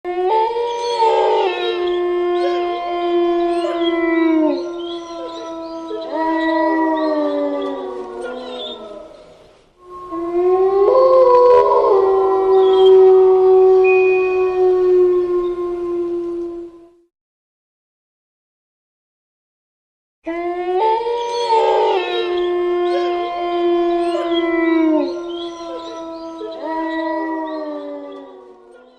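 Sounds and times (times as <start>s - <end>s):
wolves howling in chorus: 0.1s - 17.0s, 20.3s - 28.9s.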